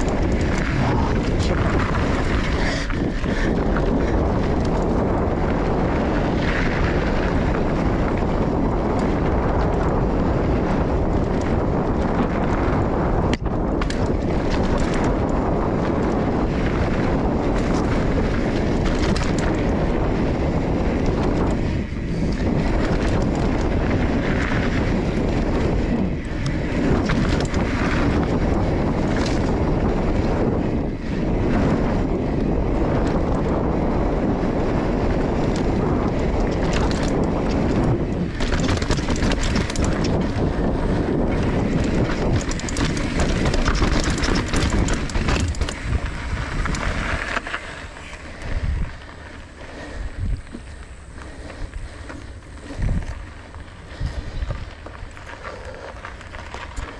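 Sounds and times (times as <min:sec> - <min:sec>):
bike tyres on dirt trail: 0:00.0 - 0:56.9
clicks and knocks from bike: 0:00.0 - 0:56.9
wind buffeting microphone: 0:00.0 - 0:56.9.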